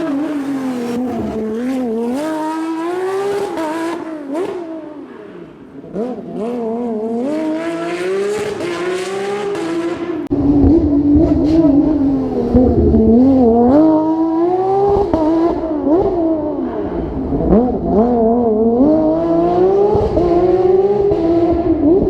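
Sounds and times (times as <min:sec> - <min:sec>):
racing car engine revving: 0:00.0 - 0:22.0.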